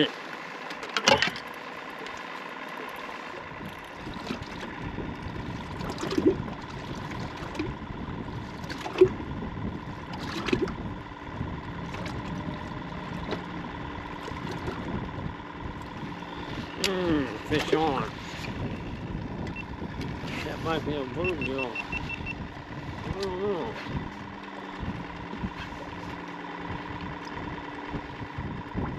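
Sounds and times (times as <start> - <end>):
steady low hum: 0.0 - 28.9
water lapping and splashing: 0.0 - 28.9.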